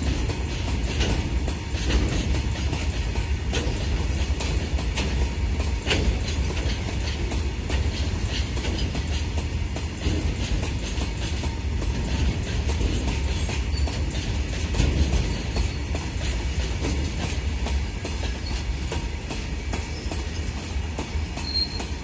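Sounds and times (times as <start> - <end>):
steel wheels rumbling on rails: 0.0 - 22.0
wheels clacking over rail joints: 0.0 - 22.0.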